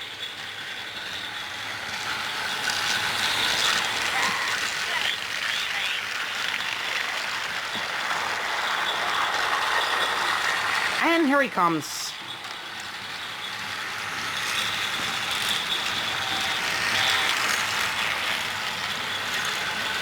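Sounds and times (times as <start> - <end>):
wheels rattling on plastic track: 0.0 - 11.0, 12.1 - 20.0
toy train motors whirring: 0.0 - 11.4, 12.1 - 20.0.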